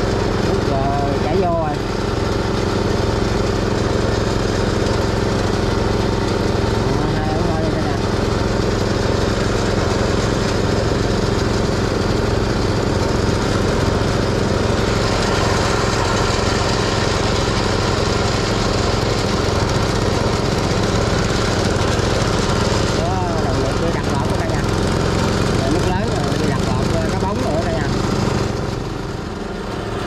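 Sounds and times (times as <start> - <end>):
small engine running steadily: 0.0 - 30.0.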